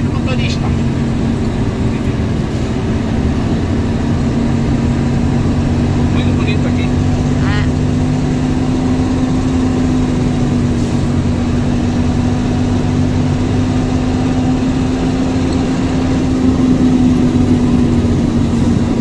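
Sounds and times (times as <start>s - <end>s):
road noise: 0.0s - 19.0s
truck diesel engine running: 0.0s - 19.0s.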